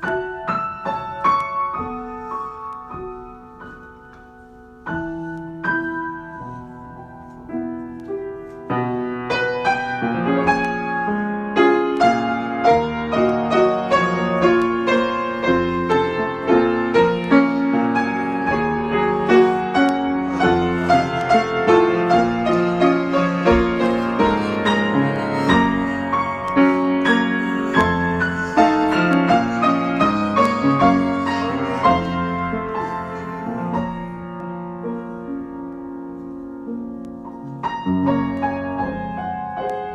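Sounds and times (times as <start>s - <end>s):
solo piano playing: 0.0s - 39.9s.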